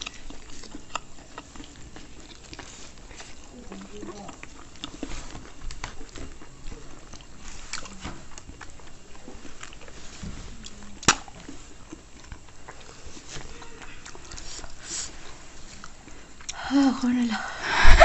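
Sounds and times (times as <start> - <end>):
chewing and mouth noises: 0.0 - 16.7.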